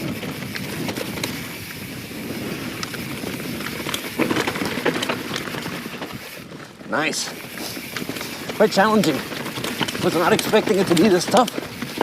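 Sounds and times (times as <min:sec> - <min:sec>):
bike clicks and rattles: 0:00.0 - 0:12.0
bike tyres rumbling over dirt: 0:00.0 - 0:12.0.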